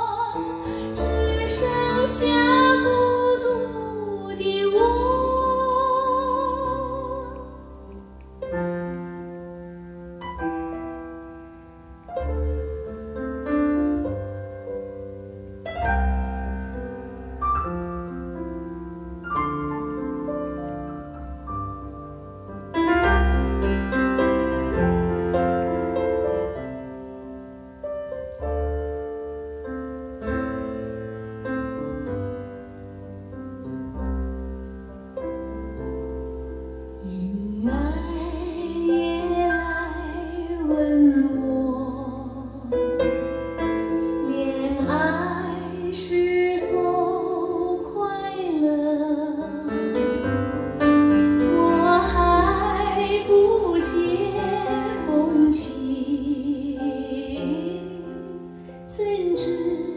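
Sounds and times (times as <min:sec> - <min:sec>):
piano pop ballad over speakers: 0:00.0 - 0:59.9.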